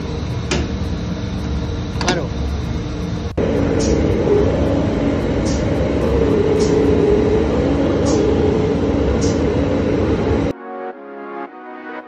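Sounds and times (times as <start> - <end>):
low machine hum: 0.0 - 10.5.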